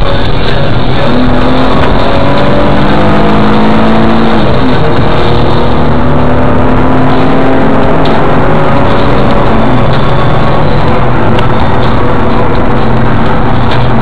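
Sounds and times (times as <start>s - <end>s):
car engine revving: 0.0s - 14.0s
road noise: 0.0s - 14.0s.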